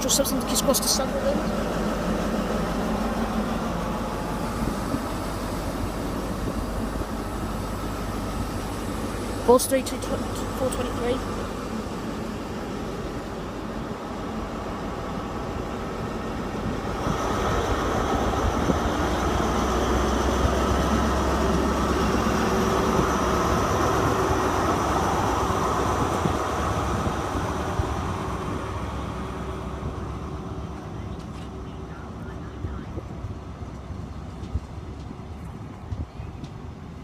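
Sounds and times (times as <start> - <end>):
diesel engine drone: 0.0 - 37.0
wheel and rail noise: 0.0 - 37.0.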